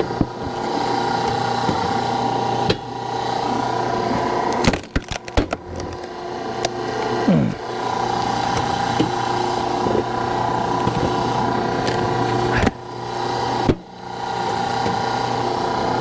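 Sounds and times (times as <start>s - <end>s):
hydraulic log splitter running: 0.0s - 16.0s.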